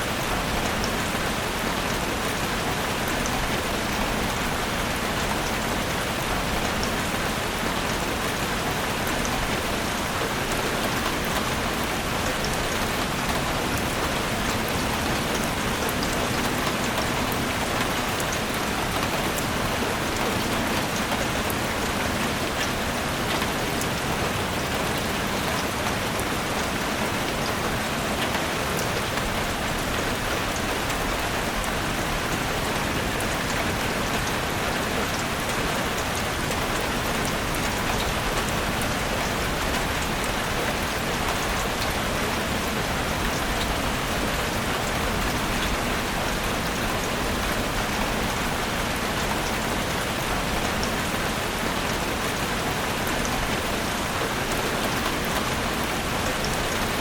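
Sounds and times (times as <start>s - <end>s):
rain falling in forest: 0.0s - 57.0s.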